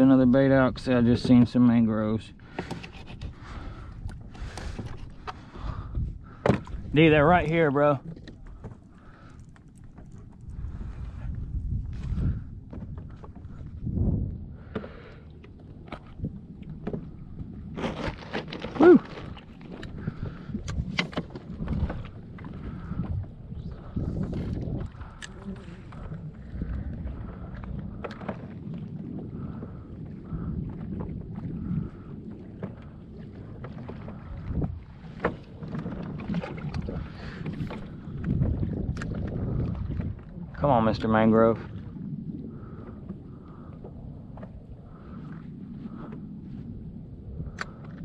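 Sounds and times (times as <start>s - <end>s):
waves slapping kayak hull: 0.0s - 48.0s
wind buffeting microphone: 0.0s - 48.0s.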